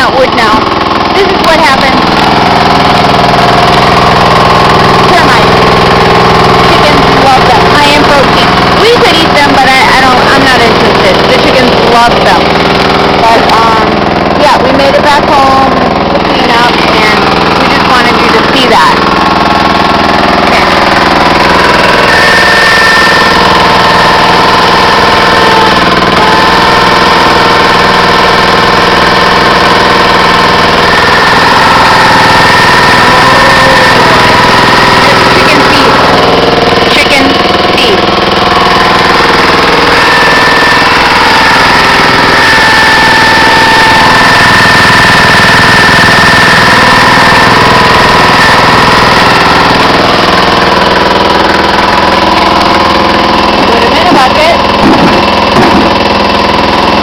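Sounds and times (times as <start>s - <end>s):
high whine: 0.0s - 57.0s
small gas engine running: 0.0s - 57.0s.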